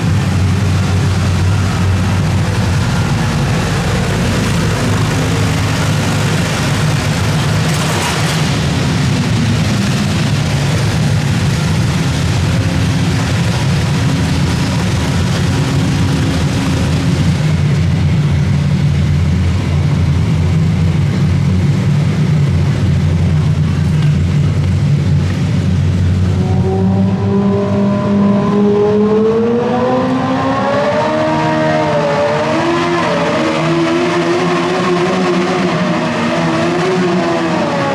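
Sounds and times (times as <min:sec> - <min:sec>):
tractor engine running hard: 0:00.0 - 0:37.9.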